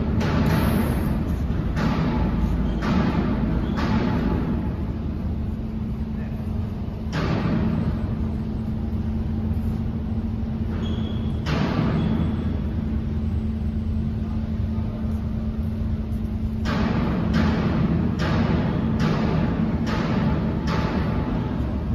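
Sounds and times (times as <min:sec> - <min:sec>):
machinery rumble and hum: 0:00.0 - 0:21.9.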